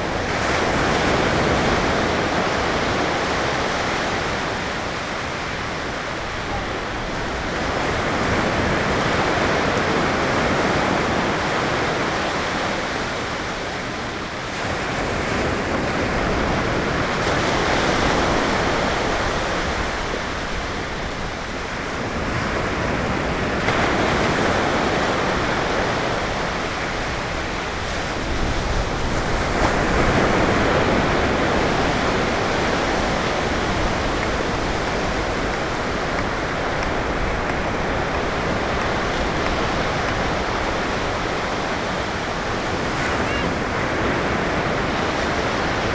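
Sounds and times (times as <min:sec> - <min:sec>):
waves breaking on beach: 0:00.0 - 0:45.9.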